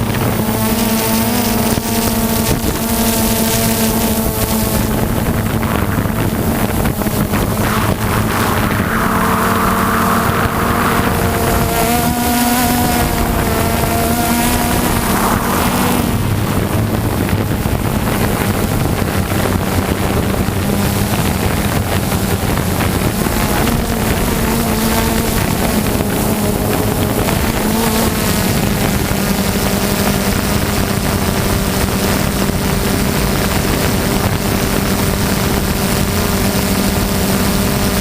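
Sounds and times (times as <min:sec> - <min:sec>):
aircraft engine droning: 0:00.0 - 0:38.0
wind buffeting microphone: 0:00.0 - 0:38.0.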